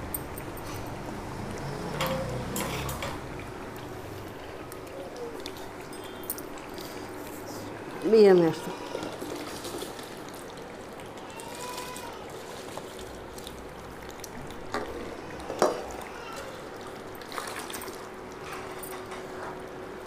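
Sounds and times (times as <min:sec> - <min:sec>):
water sloshing and trickling: 0:00.0 - 0:20.0.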